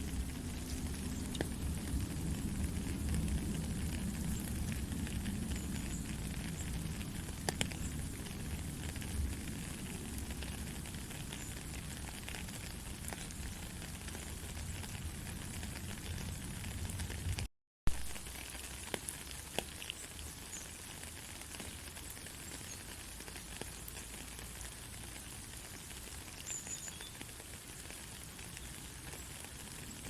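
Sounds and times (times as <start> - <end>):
rain hissing: 0.0 - 30.0
raindrops ticking: 0.0 - 30.0.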